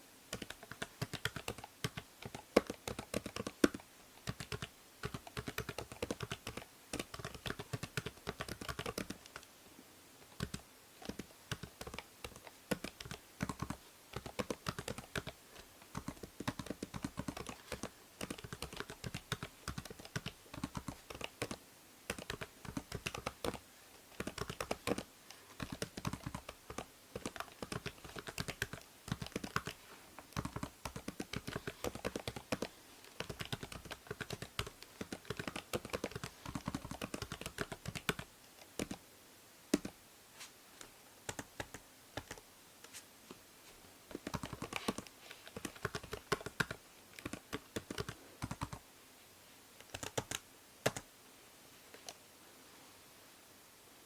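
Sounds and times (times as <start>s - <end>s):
keyboard typing: 0.3s - 9.5s, 10.4s - 39.0s, 39.7s - 40.0s, 41.3s - 42.4s, 44.1s - 48.8s, 49.8s - 51.1s.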